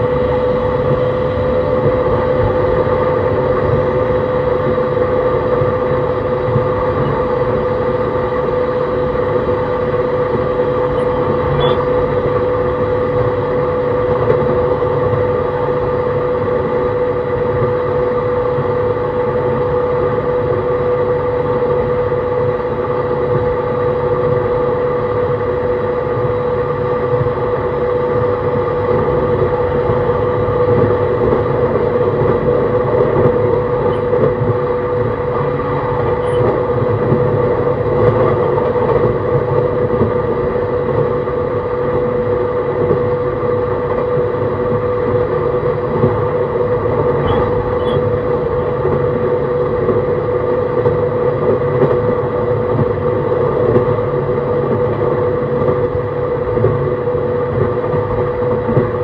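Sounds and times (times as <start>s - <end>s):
electric train motor hum: 0.0s - 59.0s
wheels rumbling on rail: 0.0s - 59.0s.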